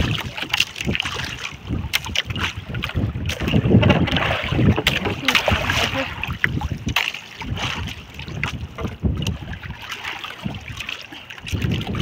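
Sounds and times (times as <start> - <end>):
knocks and splashes: 0.0 - 12.0
waves slapping boat hull: 0.0 - 12.0
wind buffeting microphone: 0.0 - 12.0.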